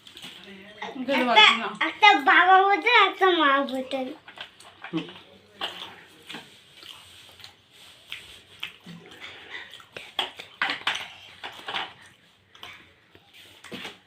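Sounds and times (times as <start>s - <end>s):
people chewing: 0.0s - 1.2s, 3.6s - 14.0s.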